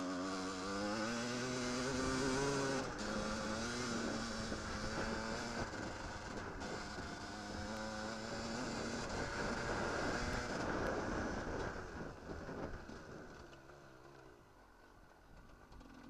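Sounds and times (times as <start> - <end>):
motorcycle engine revving: 0.0 - 14.5.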